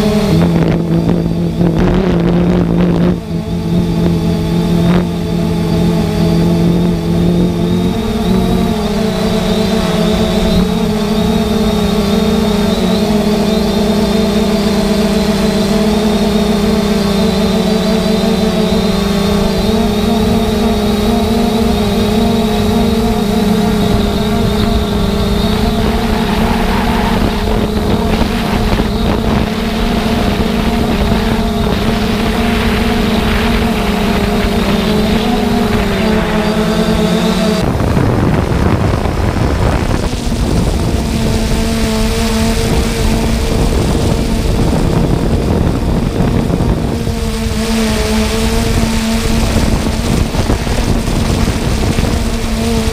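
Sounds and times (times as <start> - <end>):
drone motors and propellers humming: 0.0 - 52.9
rough wind noise: 0.0 - 52.9.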